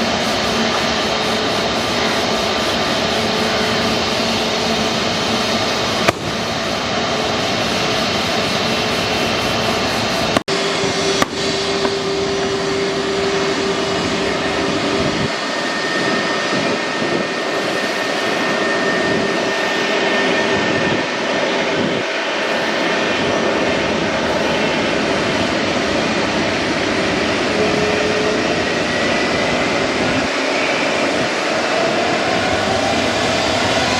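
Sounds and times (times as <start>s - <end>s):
jet engines rushing with whine: 0.0s - 33.9s.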